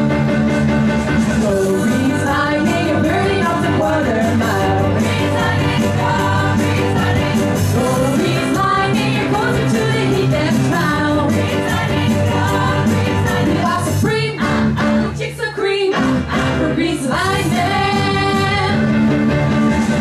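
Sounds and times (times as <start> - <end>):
live rock band playing: 0.0 - 15.2, 15.9 - 20.0
women singing: 1.4 - 18.8.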